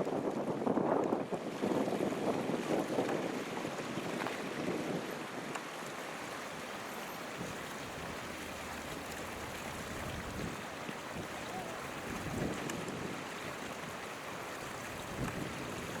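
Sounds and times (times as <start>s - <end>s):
wind on microphone: 0.0s - 5.5s, 7.3s - 16.0s.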